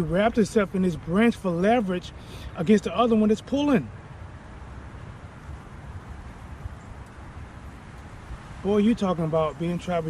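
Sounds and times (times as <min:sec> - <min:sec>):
faint hiss: 0:00.1 - 0:10.0.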